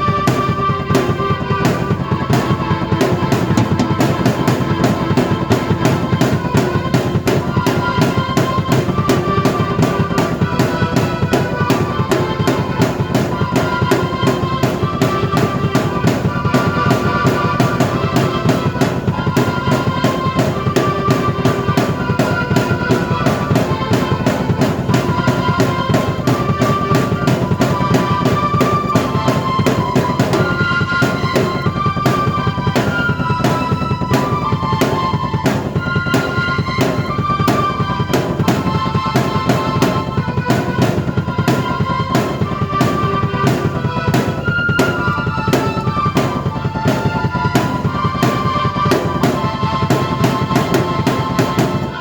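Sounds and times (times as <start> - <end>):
drum kit beat: 0.0 - 52.0
keyboard melody: 0.0 - 52.0.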